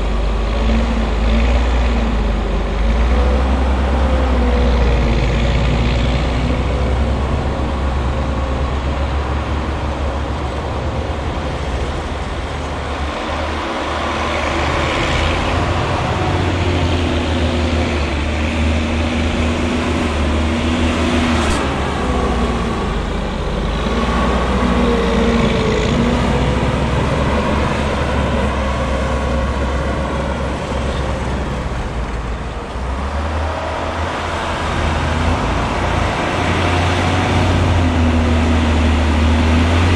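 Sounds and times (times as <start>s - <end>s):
diesel engine rumbling under load: 0.0s - 39.9s.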